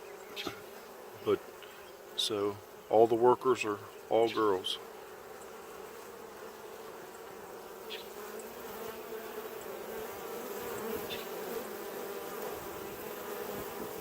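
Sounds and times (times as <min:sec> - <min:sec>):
honeybees humming: 0:00.0 - 0:14.0.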